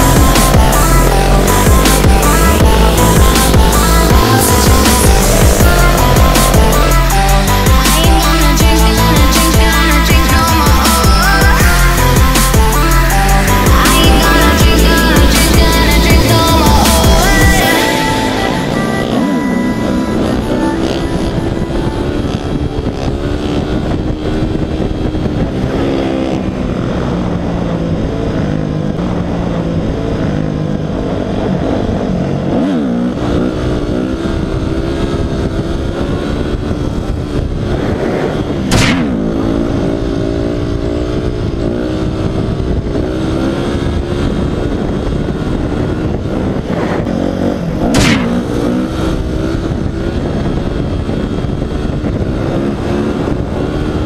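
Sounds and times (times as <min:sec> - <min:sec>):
dirt bike engine revving: 0:00.0 - 0:54.0
dirt bike engine running: 0:00.0 - 0:54.0.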